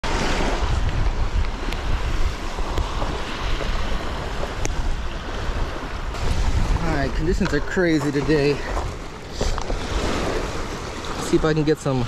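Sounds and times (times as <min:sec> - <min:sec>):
lake waves: 0:00.0 - 0:12.0
wind buffeting microphone: 0:00.0 - 0:12.0.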